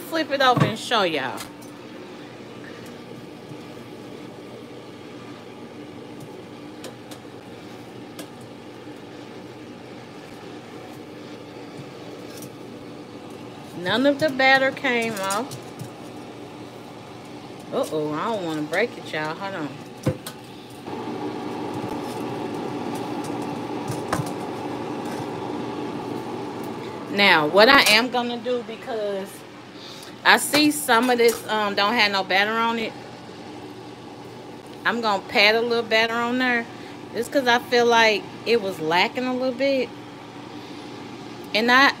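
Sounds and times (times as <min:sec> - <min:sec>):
appliance hum: 0:00.0 - 0:42.0.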